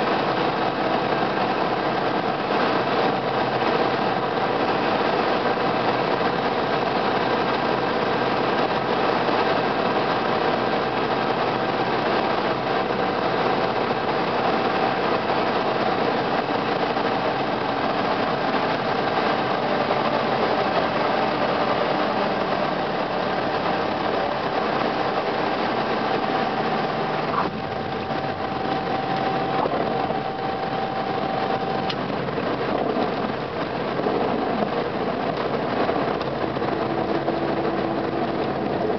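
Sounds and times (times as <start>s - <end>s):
light aircraft engine and propeller: 0.0s - 38.9s
wind and airframe noise: 0.0s - 38.9s.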